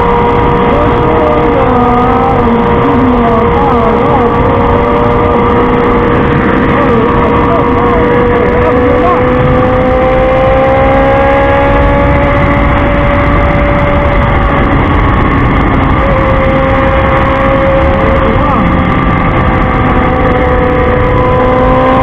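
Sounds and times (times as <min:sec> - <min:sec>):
motorcycle engine cruising: 0:00.0 - 0:22.0
wind rush on microphone: 0:00.0 - 0:22.0.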